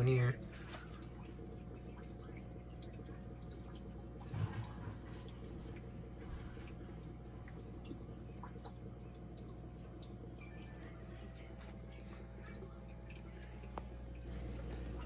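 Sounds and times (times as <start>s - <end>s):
low equipment hum: 0.0s - 15.0s
water dripping and trickling: 0.0s - 15.0s.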